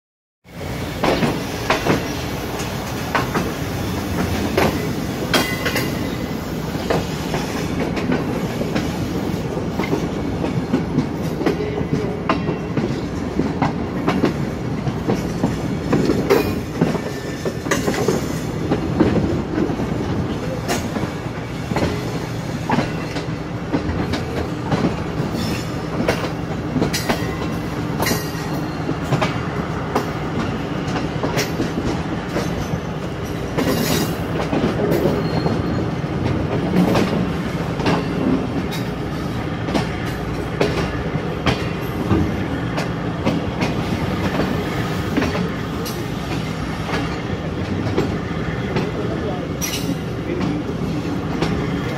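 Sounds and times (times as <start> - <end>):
train wheels rumbling: 0.5 - 51.9.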